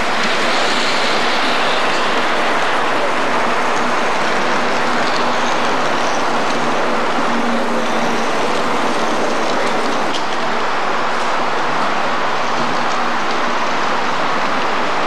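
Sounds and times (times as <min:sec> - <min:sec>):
model train wheels rolling on rail: 0:00.0 - 0:15.0.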